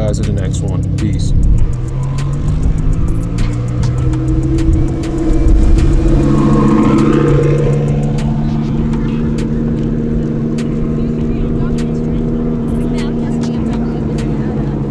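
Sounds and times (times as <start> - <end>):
sports car engine rumbling: 0.0 - 14.9
sharp ticks: 0.2 - 14.6.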